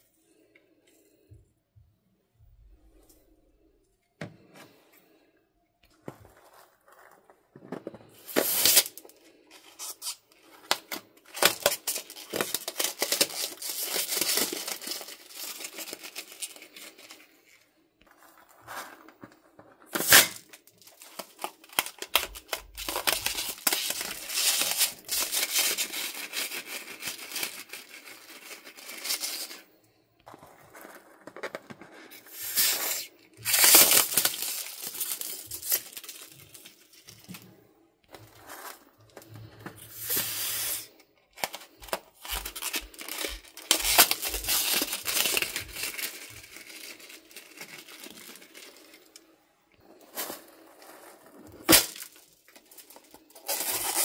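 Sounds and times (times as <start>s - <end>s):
crinkling handling noise: 4.1s - 54.0s.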